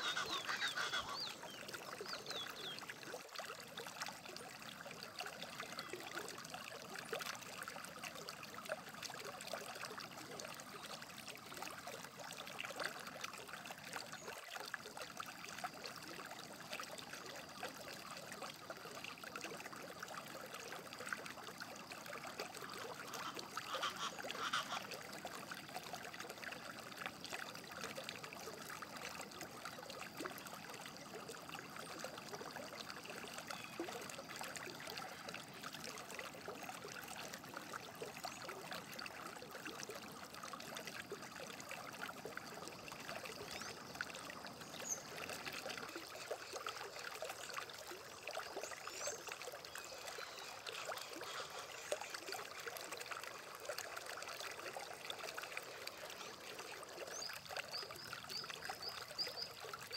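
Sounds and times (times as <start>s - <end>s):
river babbling over stones: 0.0s - 59.9s.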